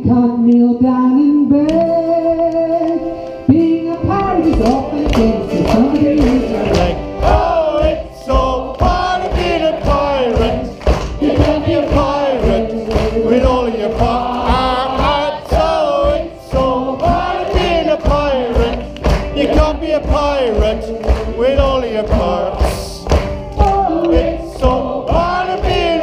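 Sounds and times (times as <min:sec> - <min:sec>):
group singing: 0:04.2 - 0:26.0.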